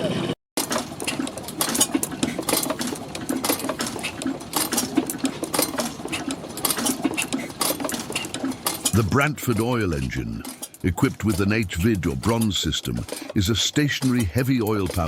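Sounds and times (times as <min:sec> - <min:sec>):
old engine clattering: 0:00.0 - 0:15.0.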